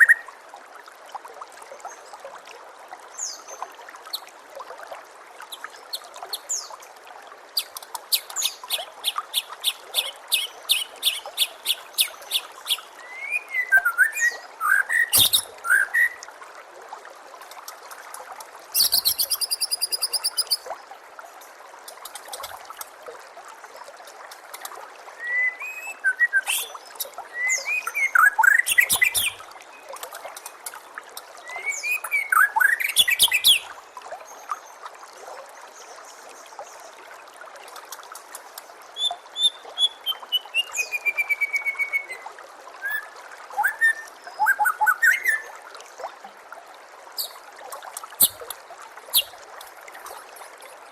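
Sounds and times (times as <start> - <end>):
trickle of running water: 0.0 - 50.9.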